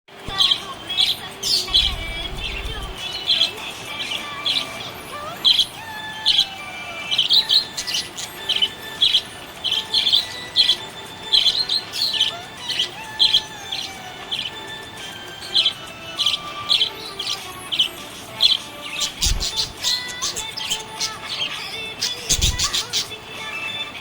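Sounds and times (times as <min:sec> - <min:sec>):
budgies chirping: 0:00.1 - 0:24.0.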